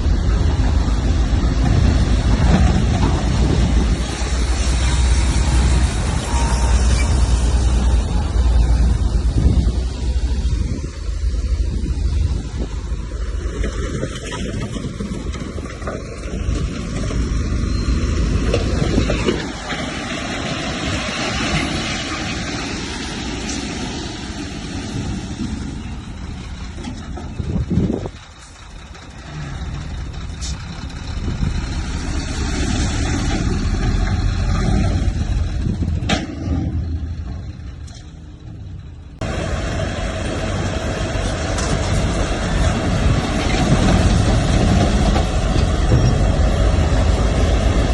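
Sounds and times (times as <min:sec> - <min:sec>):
heavy machinery engine: 0:00.0 - 0:47.9.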